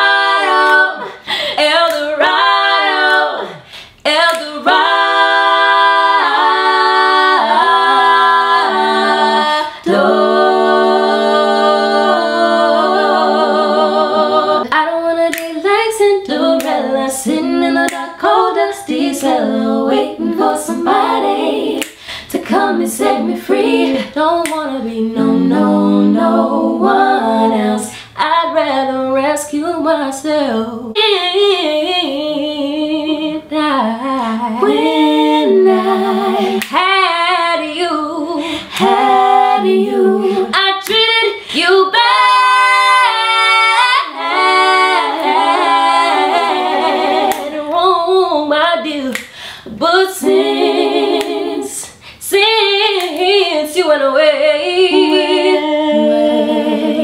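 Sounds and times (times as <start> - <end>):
women singing a cappella: 0.0 - 57.0.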